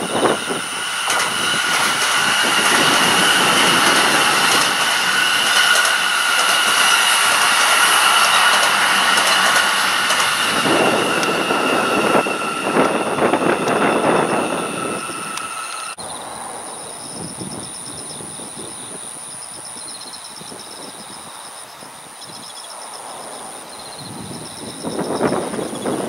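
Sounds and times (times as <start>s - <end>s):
electric train passing: 0.0s - 19.4s, 20.3s - 26.0s.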